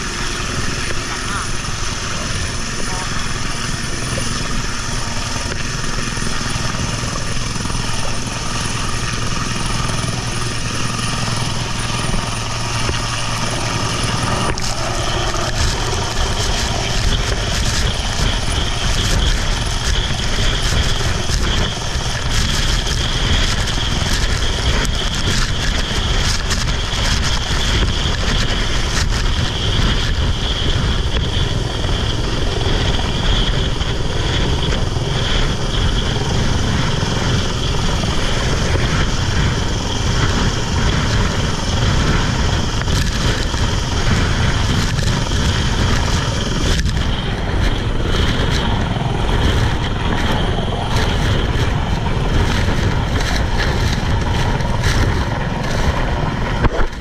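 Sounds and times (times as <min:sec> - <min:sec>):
engines running loudly: 0:00.0 - 0:57.0.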